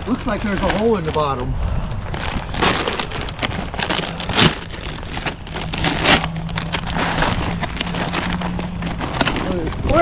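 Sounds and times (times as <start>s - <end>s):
rustling and crinkling handling noise: 0.0s - 10.0s.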